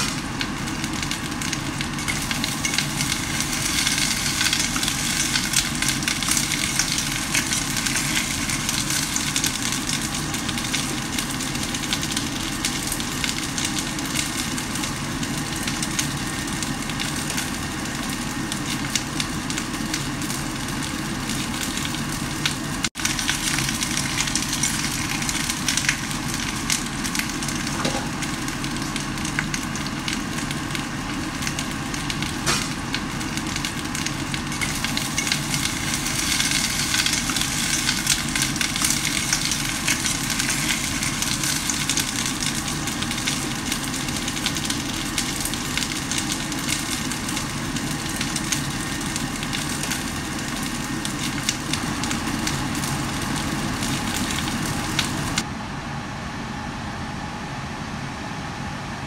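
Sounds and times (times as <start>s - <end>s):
fish sizzling and crackling: 0.0s - 55.5s.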